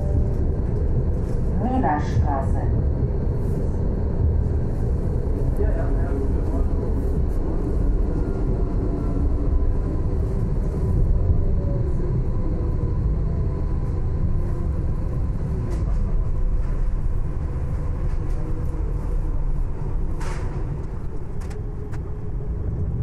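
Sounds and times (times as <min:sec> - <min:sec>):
faint steady whine: 0:00.0 - 0:23.0
tram rumbling on rails: 0:00.0 - 0:23.0.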